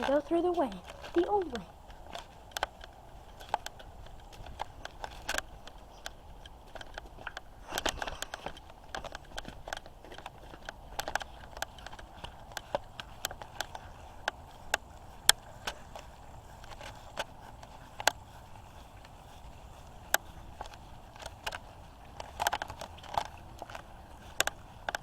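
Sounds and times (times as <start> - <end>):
footsteps crunching through dry brush: 0.0 - 25.0.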